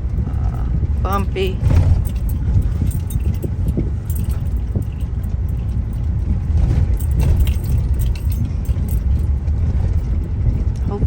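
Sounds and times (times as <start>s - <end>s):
car road noise rumble: 0.0s - 11.0s
rattling and jangling: 0.0s - 11.0s.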